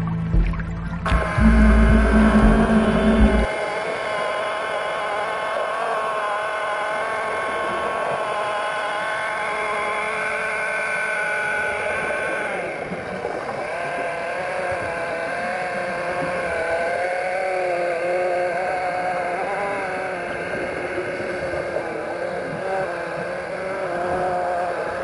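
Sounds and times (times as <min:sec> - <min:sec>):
underwater polishing machine whine: 0:01.1 - 0:25.0.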